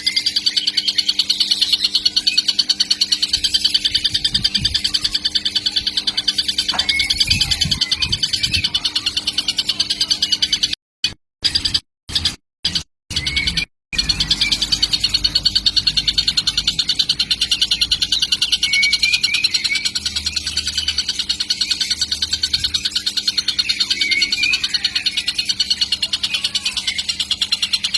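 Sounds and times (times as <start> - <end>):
bird chick calling: 0.0 - 10.8, 11.5 - 27.9.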